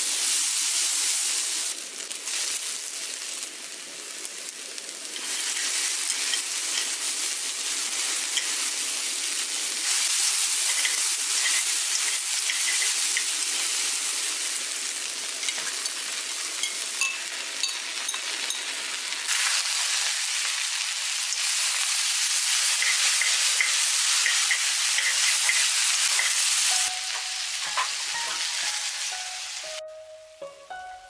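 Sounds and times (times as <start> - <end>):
noodles sizzling in hot oil: 0.0 - 30.4.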